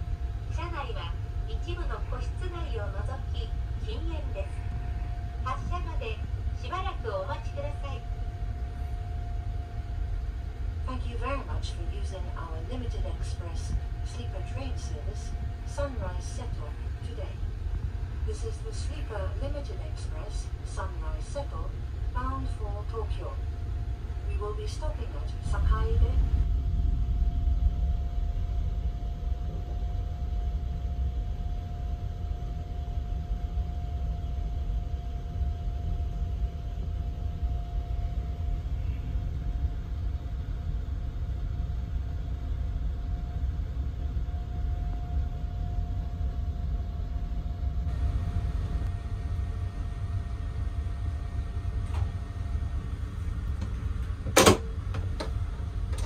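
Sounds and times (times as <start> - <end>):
faint steady tone: 0.0 - 53.6
train rumble and hum: 0.0 - 56.0.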